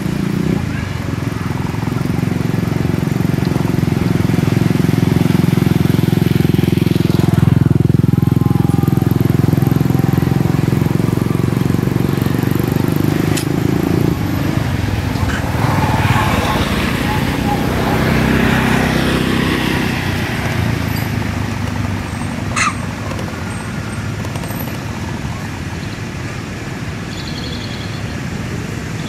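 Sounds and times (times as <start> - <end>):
small engine running: 0.0 - 25.4.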